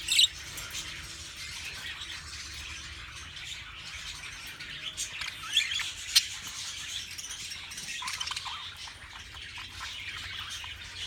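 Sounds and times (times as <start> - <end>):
budgies chirping and chattering: 0.0 - 11.0.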